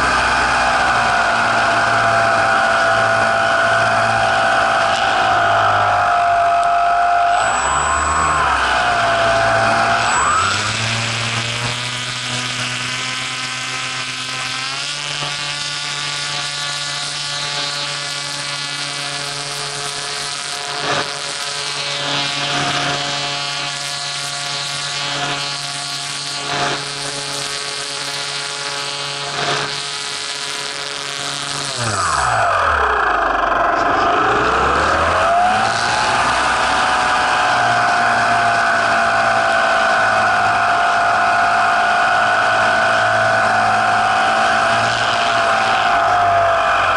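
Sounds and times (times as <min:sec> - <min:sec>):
model airplane motor and propeller: 0:00.0 - 0:46.9.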